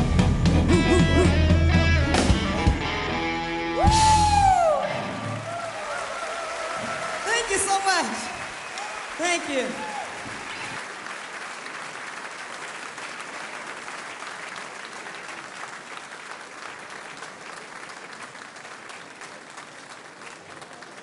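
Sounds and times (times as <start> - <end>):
audience applauding: 3.8 - 21.0.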